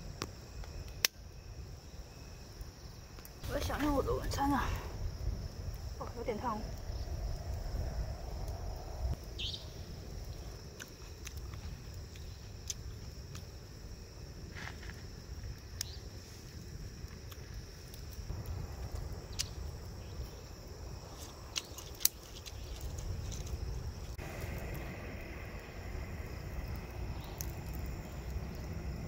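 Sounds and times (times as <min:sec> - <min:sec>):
campfire crackling and popping: 0:00.0 - 0:29.0
low rumble of burning fire: 0:00.0 - 0:29.0.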